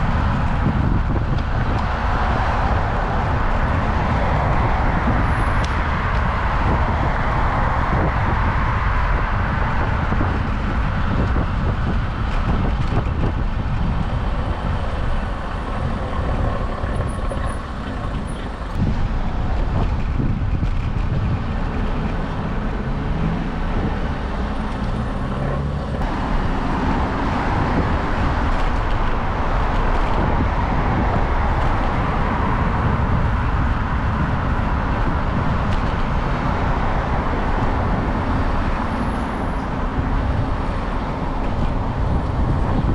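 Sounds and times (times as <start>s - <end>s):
cars and trucks passing: 0.0s - 42.9s
wind noise on microphone: 0.0s - 42.9s.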